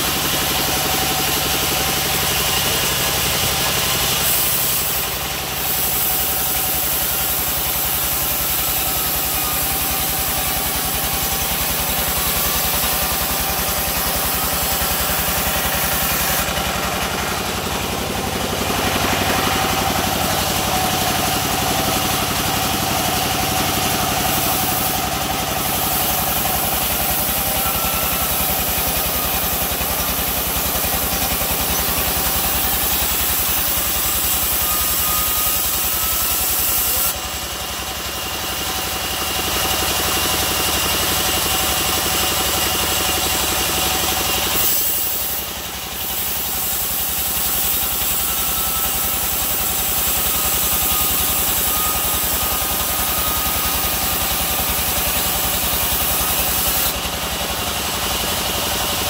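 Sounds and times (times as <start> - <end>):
saw hissing through wood: 0.0 - 59.0
sawmill engine droning: 0.0 - 59.0.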